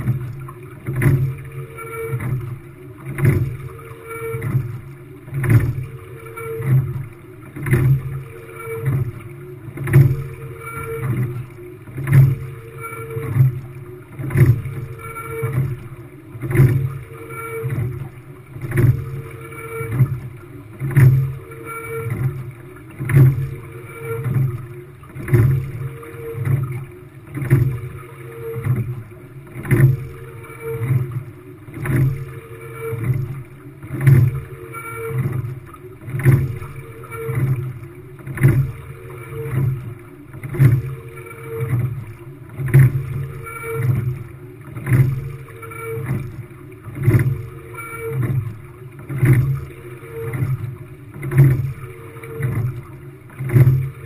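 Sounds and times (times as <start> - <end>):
water rushing along hull: 0.0 - 54.0.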